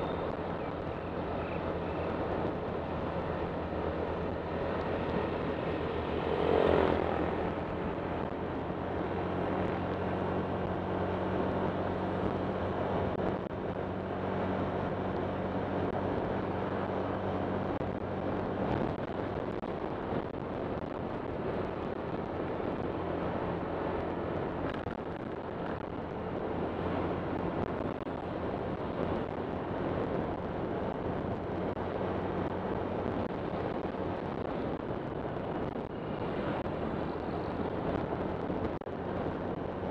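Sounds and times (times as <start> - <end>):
road noise rush: 0.0 - 39.9.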